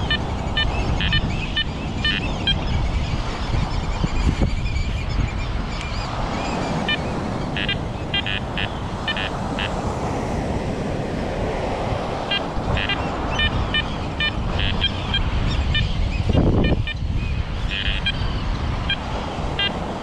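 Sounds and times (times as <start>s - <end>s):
birds piping alarm calls: 0.0s - 3.2s, 4.1s - 9.8s, 12.3s - 19.8s
wind: 0.0s - 20.0s.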